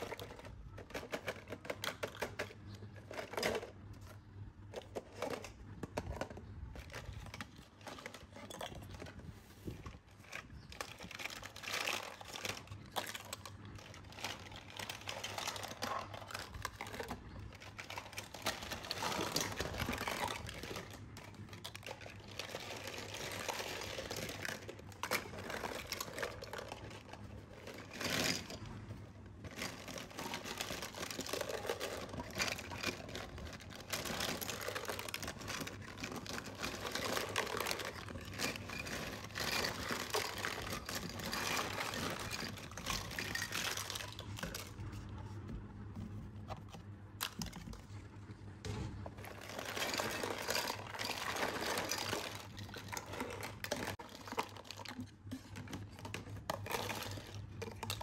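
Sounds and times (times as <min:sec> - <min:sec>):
plastic toys clattering: 0:00.0 - 0:48.0, 0:48.6 - 0:58.0.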